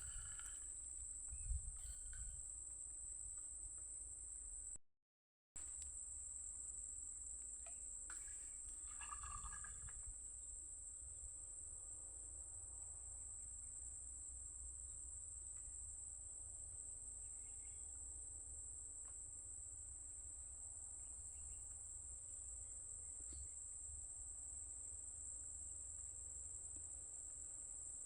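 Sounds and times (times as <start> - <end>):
insects trilling: 0.0 - 4.7, 5.6 - 13.3, 14.5 - 28.0.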